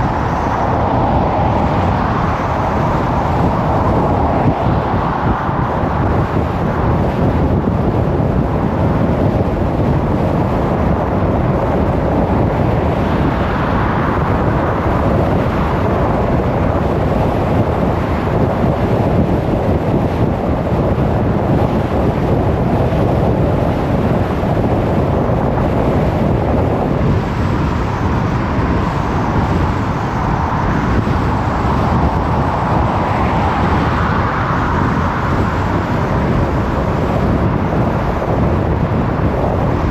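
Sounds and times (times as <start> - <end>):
car engine hum: 0.0 - 39.9
tyre and road noise: 0.0 - 39.9.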